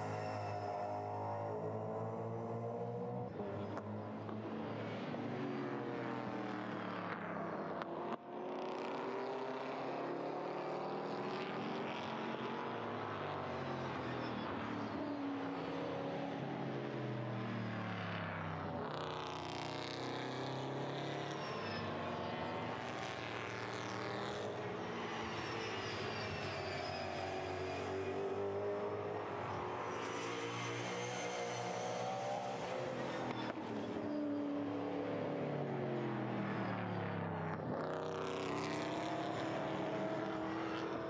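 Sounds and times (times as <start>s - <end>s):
race car engines at speed: 0.0s - 41.0s.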